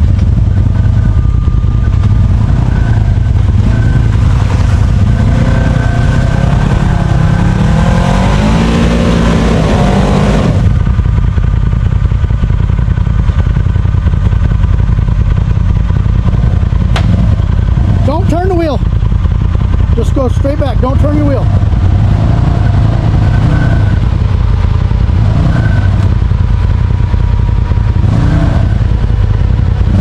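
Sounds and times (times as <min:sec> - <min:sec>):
utility vehicle engine revving: 0:00.0 - 0:11.5, 0:13.6 - 0:30.0.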